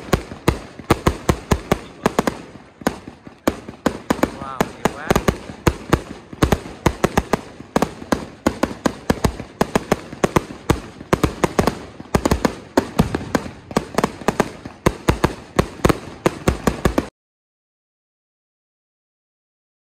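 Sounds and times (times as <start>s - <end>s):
fireworks cracking and banging: 0.0s - 17.1s.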